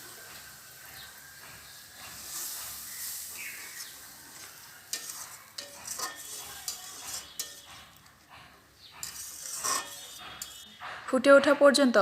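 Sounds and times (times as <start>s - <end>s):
spice paste sizzling: 0.0s - 8.3s, 8.9s - 10.8s
spatula scraping pan: 0.4s - 10.8s.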